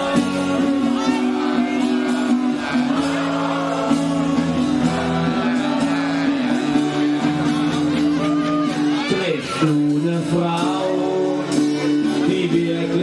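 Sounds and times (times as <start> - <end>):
live rock band playing: 0.0 - 13.0
voices singing and shouting: 0.0 - 13.0.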